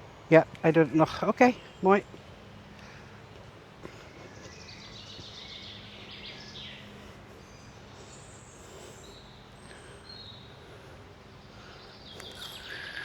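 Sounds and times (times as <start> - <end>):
woodland ambience: 0.0 - 13.0.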